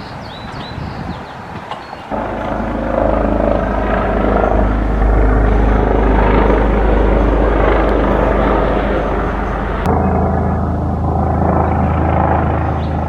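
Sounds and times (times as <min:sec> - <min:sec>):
car engine and road noise: 0:02.1 - 0:13.0.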